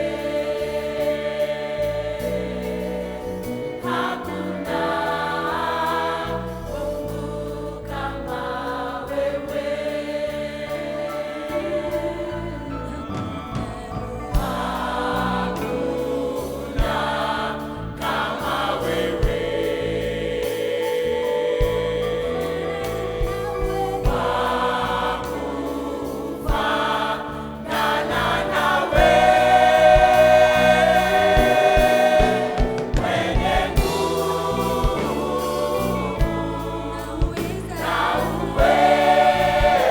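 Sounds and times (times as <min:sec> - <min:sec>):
church choir singing gospel: 0:00.0 - 0:39.9.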